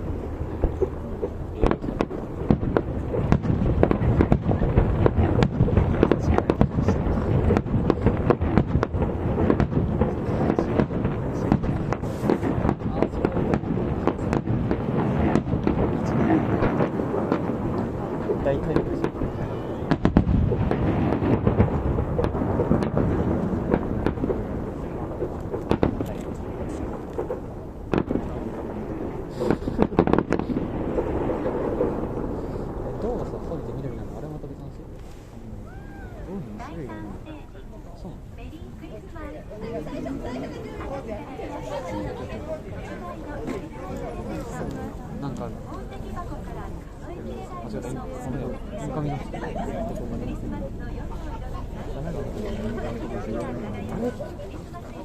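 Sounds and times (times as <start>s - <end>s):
fireworks bangs and crackles: 0.0s - 55.0s
rolling rumble: 0.0s - 55.0s.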